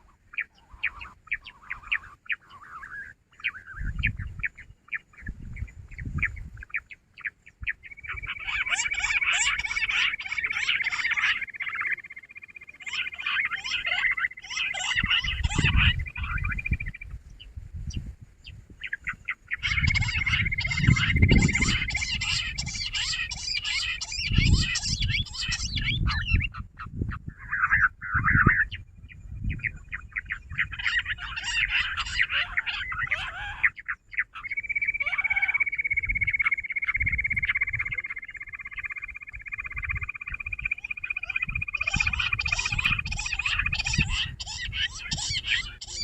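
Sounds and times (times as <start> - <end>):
quail chattering calls: 0.0 - 17.2, 18.4 - 46.0.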